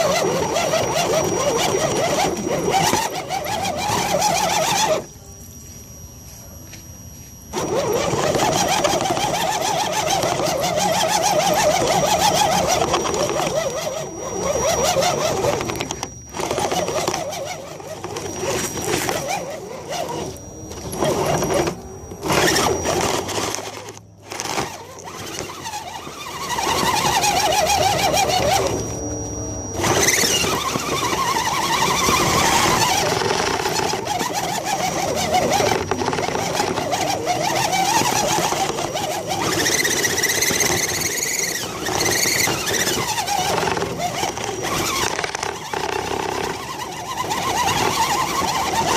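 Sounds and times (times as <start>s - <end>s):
electric motor whining: 0.0s - 48.9s
high electronic whistle: 0.0s - 48.9s.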